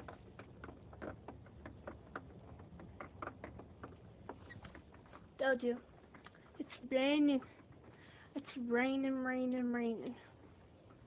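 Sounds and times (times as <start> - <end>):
rain drops tapping: 0.0 - 11.0.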